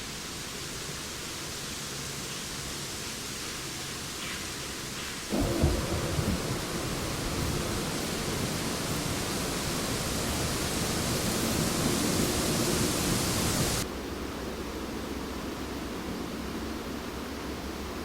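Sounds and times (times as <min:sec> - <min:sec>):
wind through trees: 0:00.0 - 0:18.0.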